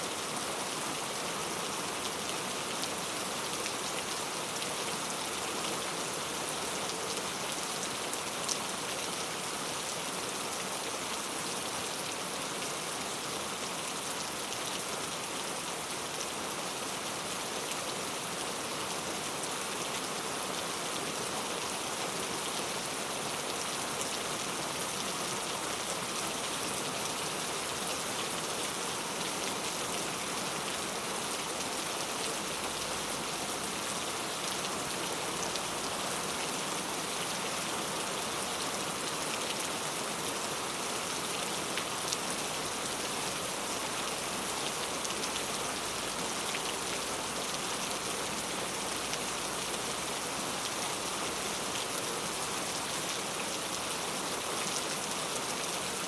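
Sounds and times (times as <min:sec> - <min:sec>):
heavy rain on street: 0:00.0 - 0:56.0.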